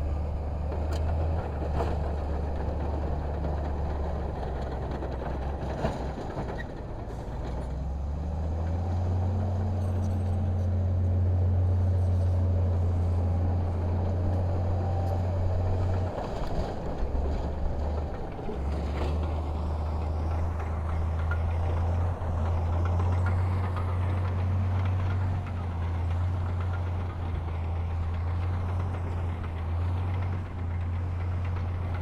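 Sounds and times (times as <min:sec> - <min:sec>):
heavy diesel engine droning: 0:00.0 - 0:32.0.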